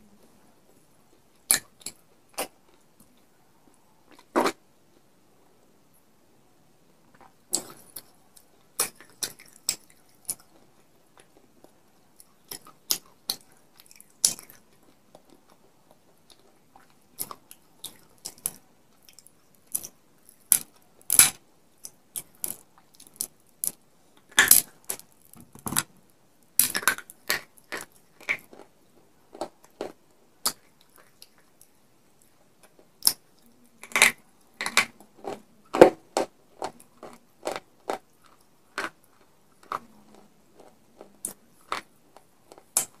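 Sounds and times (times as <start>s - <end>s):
person crunching and chewing: 7.2s - 25.9s, 26.6s - 28.7s, 29.3s - 43.0s.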